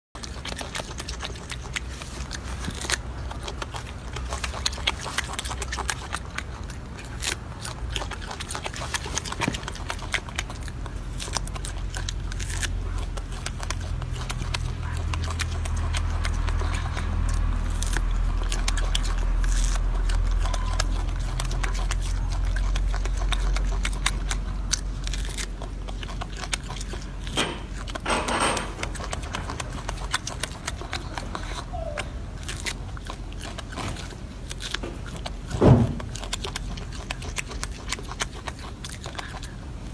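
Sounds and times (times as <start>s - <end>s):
monkey chewing wetly: 0.2s - 39.9s.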